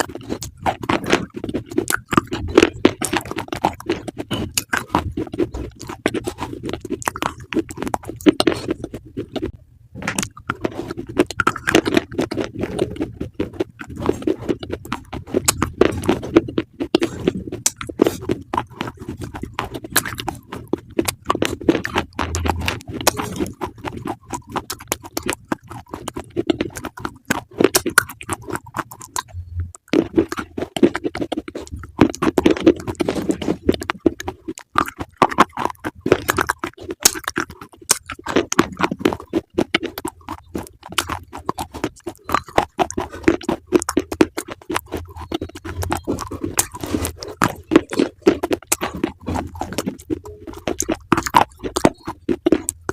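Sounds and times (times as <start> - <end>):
crunching and chewing food: 0.0 - 52.9.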